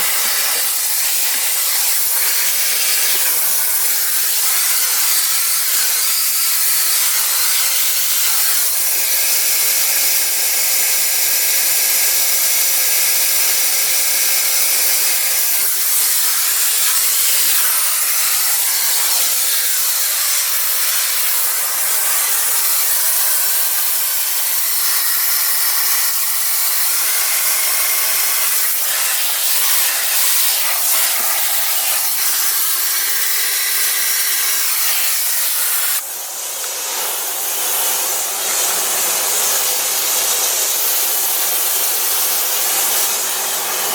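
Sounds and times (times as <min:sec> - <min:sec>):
vacuum cleaner airy hiss: 0:00.0 - 0:43.9.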